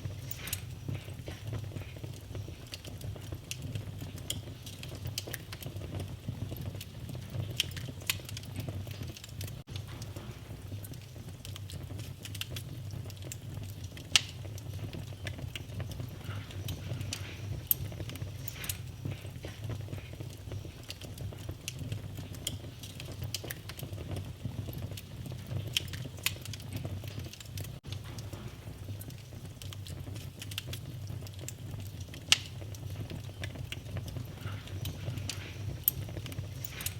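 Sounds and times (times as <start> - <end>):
low fire rumble: 0.0 - 36.9
wood fire crackling and popping: 0.0 - 36.9.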